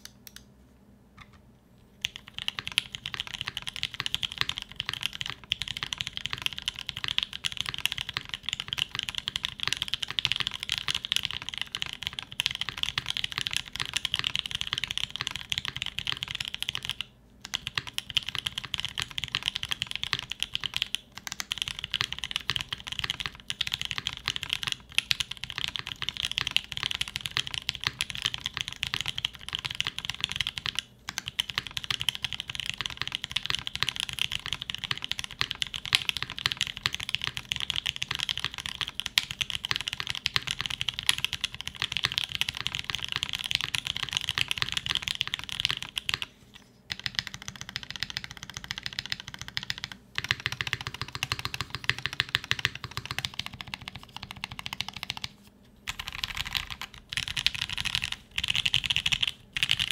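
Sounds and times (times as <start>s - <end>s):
mechanical keyboard typing: 2.0s - 59.9s.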